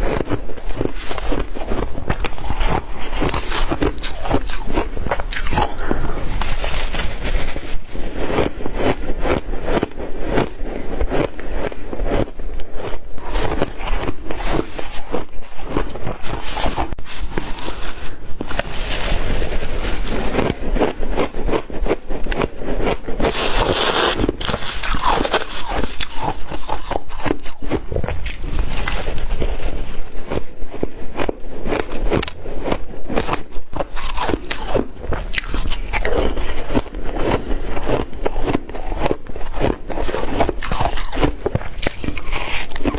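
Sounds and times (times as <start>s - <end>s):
person chewing ice crunching: 0.0s - 42.9s.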